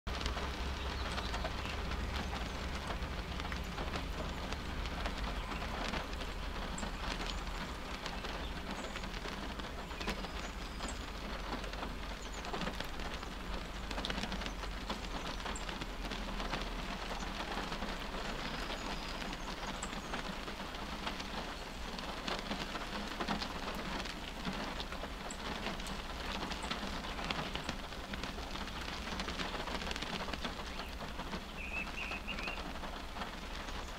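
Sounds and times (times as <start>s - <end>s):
rain on a car roof: 0.1s - 33.9s.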